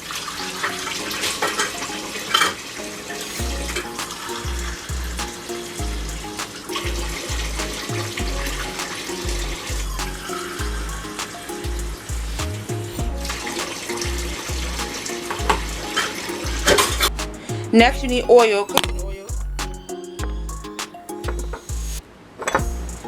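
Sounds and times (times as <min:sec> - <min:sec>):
constant hiss: 0:00.1 - 0:22.0, 0:22.6 - 0:23.0
background music with deep bass: 0:00.6 - 0:22.0, 0:22.6 - 0:23.0.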